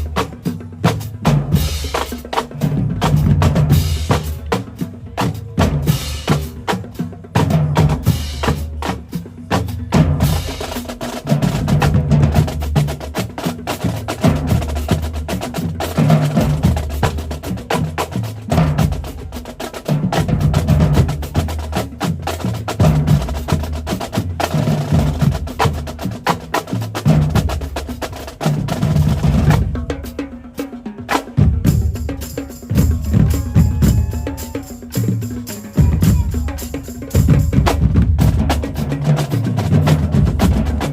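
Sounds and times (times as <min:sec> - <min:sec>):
snare drums rolling: 0:05.6 - 0:40.9.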